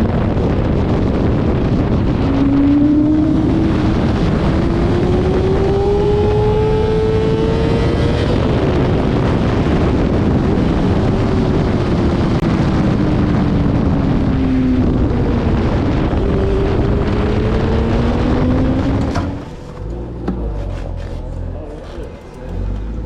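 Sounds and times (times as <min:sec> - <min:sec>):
motorcycle engine at speed: 0:00.0 - 0:23.0
wind rush over microphone: 0:00.0 - 0:23.0.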